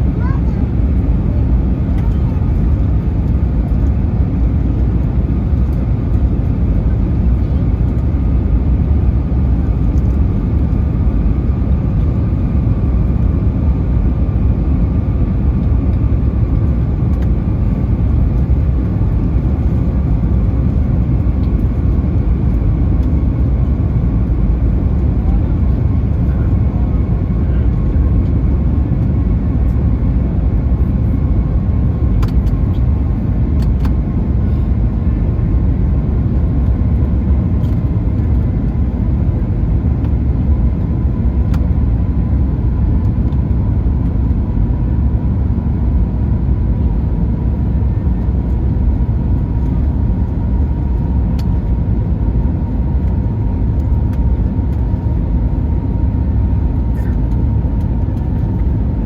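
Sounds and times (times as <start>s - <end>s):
aircraft cabin engine roar: 0.0s - 59.0s.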